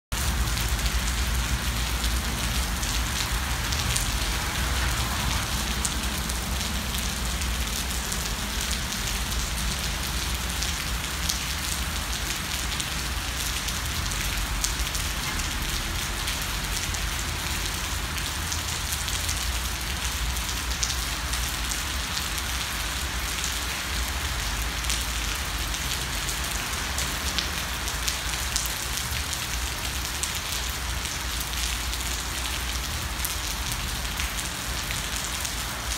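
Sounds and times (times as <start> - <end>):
rain on pavement: 0.1 - 35.9.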